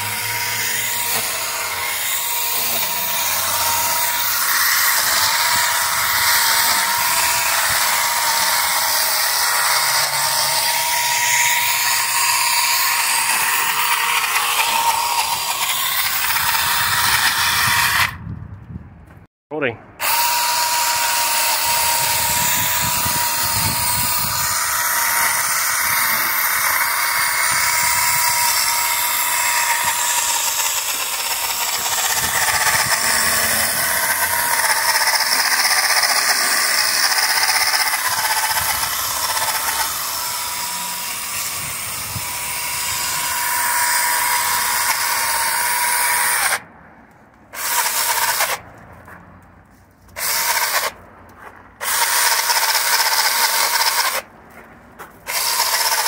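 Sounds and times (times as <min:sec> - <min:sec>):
electric chainsaw whining: 0:00.0 - 0:18.2, 0:20.0 - 0:46.7, 0:47.5 - 0:48.6, 0:50.2 - 0:51.0, 0:51.8 - 0:54.3, 0:55.2 - 0:56.0.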